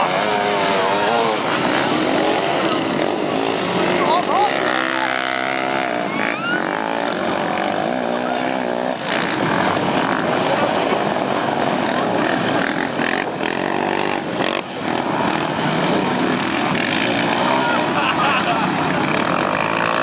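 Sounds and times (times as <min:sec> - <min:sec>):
off-road bike engines revving: 0:00.0 - 0:20.0.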